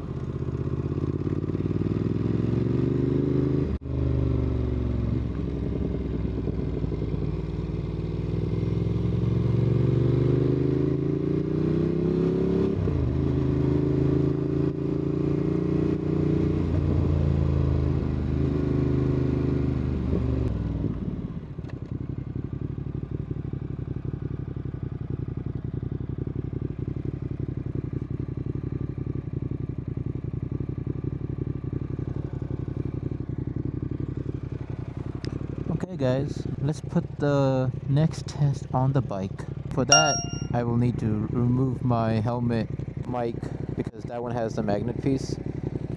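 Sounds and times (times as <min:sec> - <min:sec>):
motorcycle engine: 0:00.0 - 0:35.8, 0:39.4 - 0:43.8, 0:44.8 - 0:45.9.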